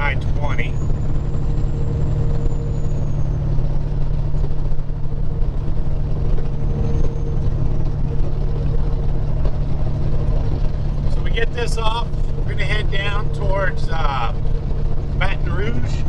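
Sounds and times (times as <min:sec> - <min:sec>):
diesel truck engine drone: 0:00.0 - 0:16.0
road and wind noise: 0:00.0 - 0:16.0.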